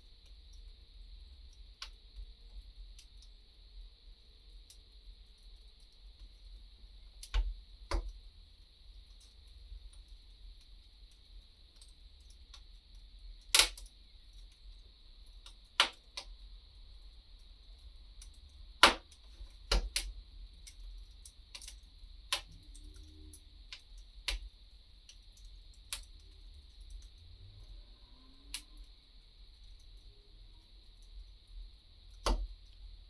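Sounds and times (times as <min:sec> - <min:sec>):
wood fire crackling: 0:04.0 - 0:27.7, 0:29.4 - 0:33.0.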